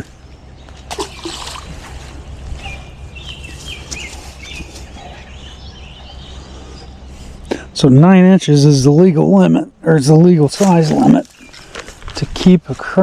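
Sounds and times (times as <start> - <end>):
bird chirping: 0.0 - 11.8
steady low rumble: 0.0 - 13.0.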